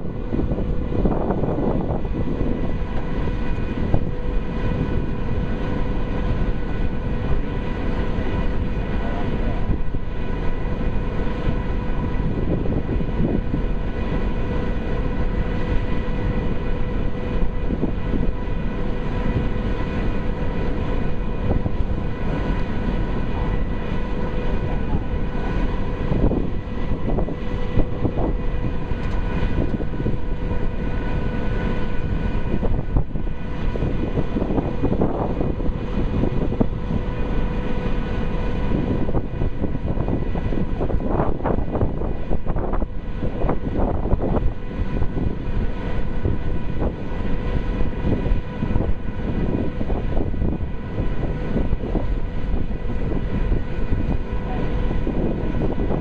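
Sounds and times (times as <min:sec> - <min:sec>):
ferry engine whine: 0:00.0 - 0:56.0
wind buffeting microphone: 0:00.0 - 0:56.0.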